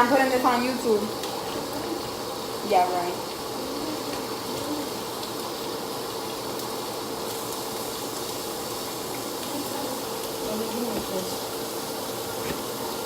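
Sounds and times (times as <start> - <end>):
food sizzling on a stovetop: 0.0 - 13.0.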